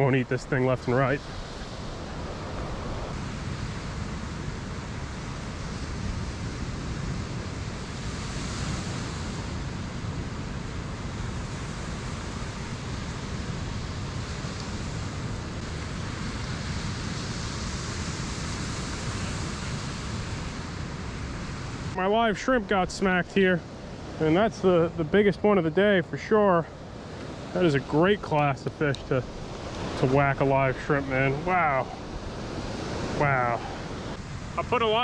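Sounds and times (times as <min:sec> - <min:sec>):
ocean surf on sandy beach: 0:00.0 - 0:35.0.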